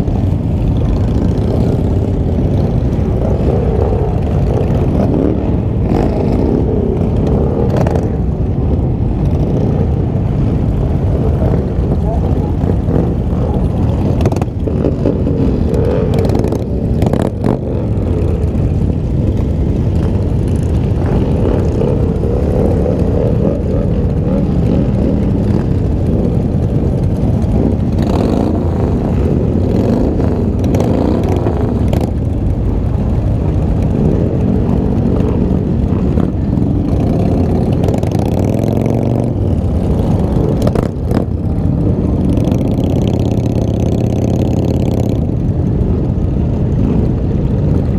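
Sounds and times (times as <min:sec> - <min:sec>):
motorcycle engines revving: 0:00.0 - 0:47.9
wind on microphone: 0:00.0 - 0:47.9.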